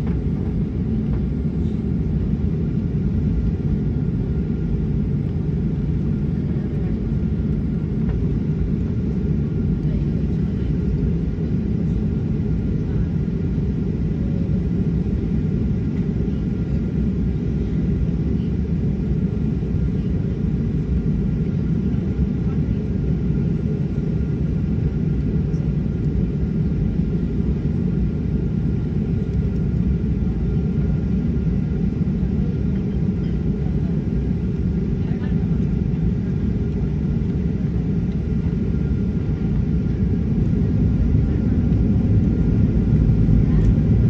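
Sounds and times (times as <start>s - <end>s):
airplane engines idling rumble: 0.0s - 44.0s.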